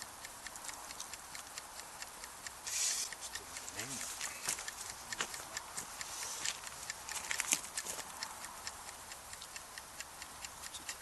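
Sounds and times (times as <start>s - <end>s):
campfire crackling: 0.0s - 11.0s
faint steady hiss: 0.0s - 11.0s.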